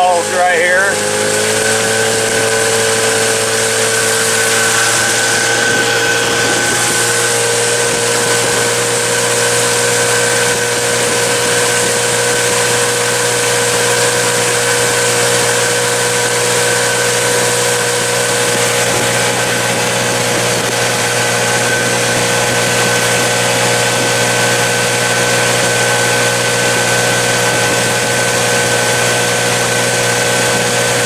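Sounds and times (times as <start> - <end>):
outboard motor droning: 0.0 - 31.0.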